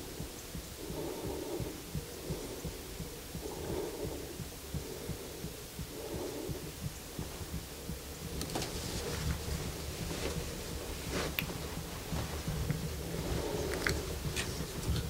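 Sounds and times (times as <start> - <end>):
heartbeat-like throbbing: 0.0 - 15.0
low irregular thumps: 0.0 - 15.0.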